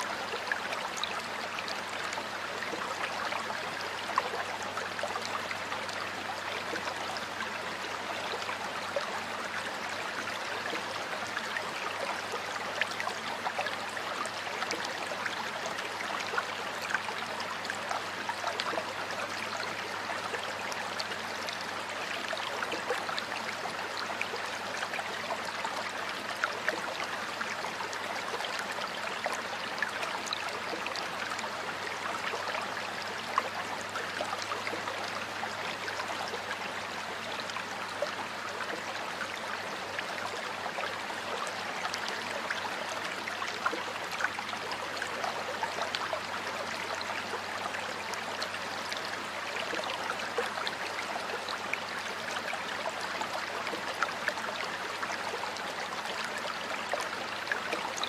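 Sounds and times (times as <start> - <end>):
stream water splashing over stones: 0.0 - 58.0.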